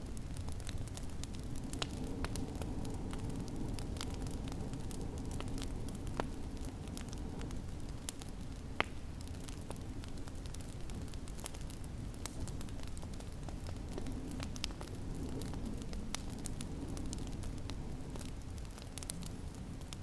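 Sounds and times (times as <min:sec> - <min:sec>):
fire popping: 0:00.0 - 0:20.0
wood fire crackling: 0:00.0 - 0:20.0.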